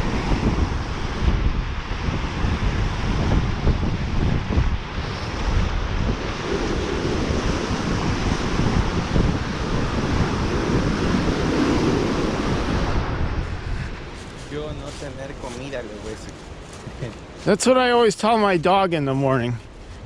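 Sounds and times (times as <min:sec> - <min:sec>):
surf rushing: 0:00.0 - 0:20.0
wind buffeting microphone: 0:00.0 - 0:20.0.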